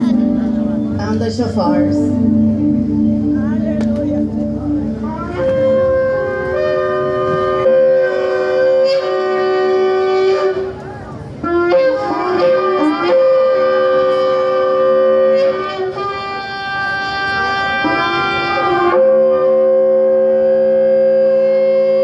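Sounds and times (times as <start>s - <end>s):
shofars blowing: 4.2s - 22.0s.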